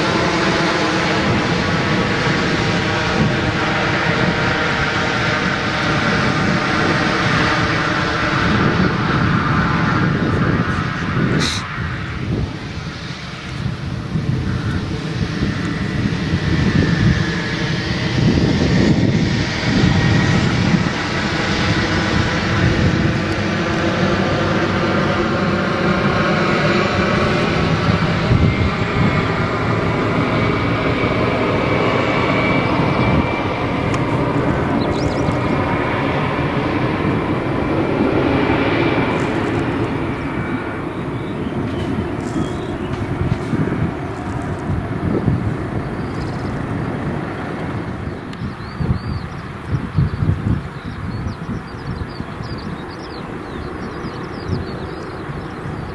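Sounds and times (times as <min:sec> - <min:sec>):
turboprop plane taking off: 0:00.0 - 0:55.9.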